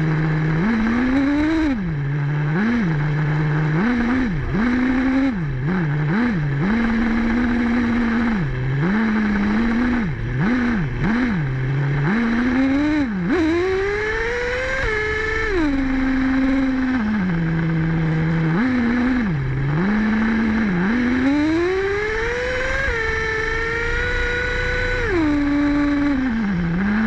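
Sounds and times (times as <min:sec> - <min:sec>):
small engine revving: 0:00.0 - 0:27.0.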